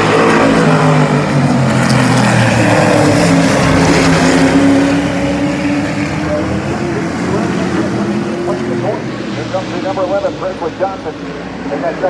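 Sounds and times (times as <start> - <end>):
race truck engines passing: 0.0 - 12.0.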